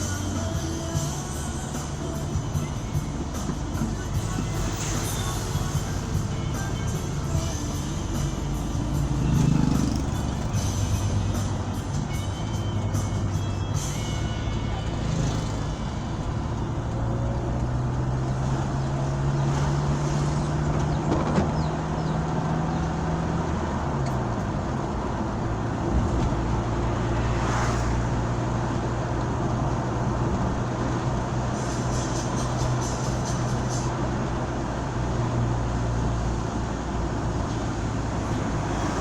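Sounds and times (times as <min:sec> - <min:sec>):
road noise: 0:00.0 - 0:39.0
vehicle engine running: 0:00.0 - 0:39.0.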